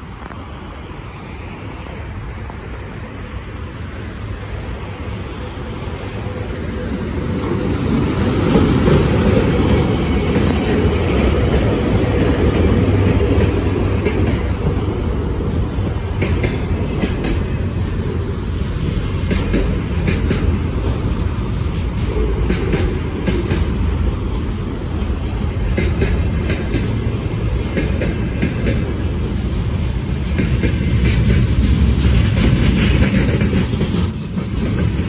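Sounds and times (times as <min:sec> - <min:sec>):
train wheels rumbling on rail: 0:00.0 - 0:35.0
wheels clicking over rail joints: 0:06.9 - 0:35.0.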